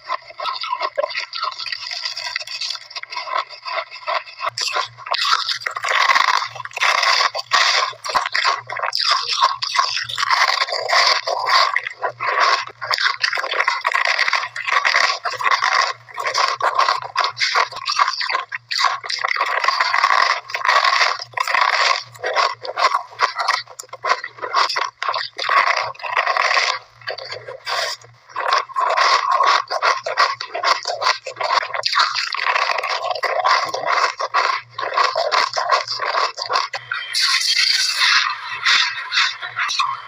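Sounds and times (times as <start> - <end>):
person crunching shaved ice: 0.0 - 38.1.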